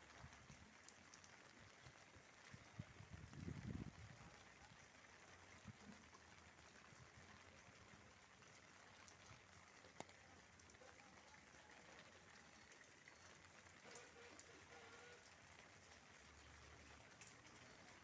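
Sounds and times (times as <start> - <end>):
faint steady rain: 0.0 - 18.0.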